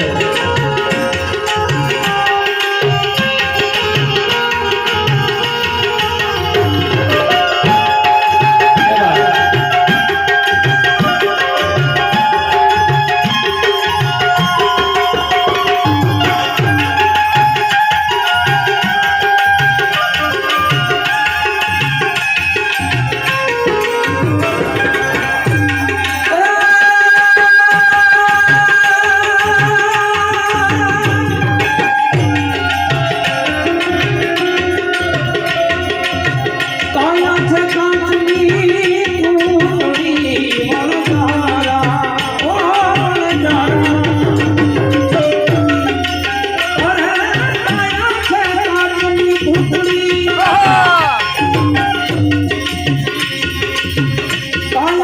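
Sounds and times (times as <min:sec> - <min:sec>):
harmonium melody: 0:00.0 - 0:55.0
tabla beat: 0:00.0 - 0:55.0.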